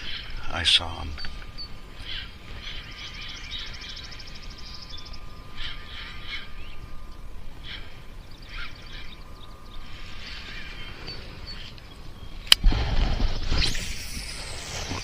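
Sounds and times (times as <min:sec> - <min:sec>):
songbirds singing and chirping: 0:00.0 - 0:15.0.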